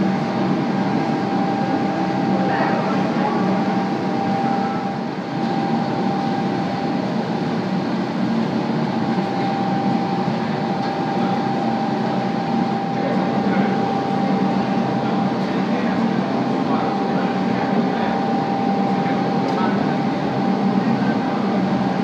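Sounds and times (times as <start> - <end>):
furnace and blowers roaring: 0.0 - 22.0
mid-pitched whine: 0.0 - 22.0.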